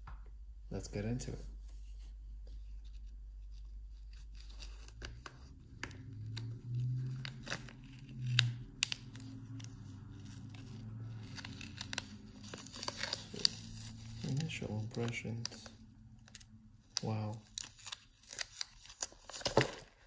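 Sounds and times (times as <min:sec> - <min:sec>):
plastic sleeve crinkling: 0:02.4 - 0:20.0.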